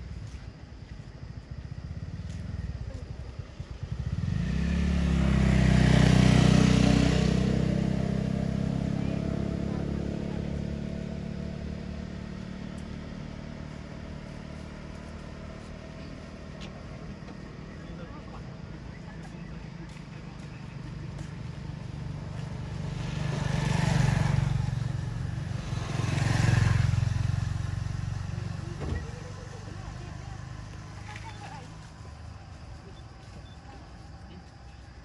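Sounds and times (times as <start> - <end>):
vehicle passing by: 1.7 - 35.0.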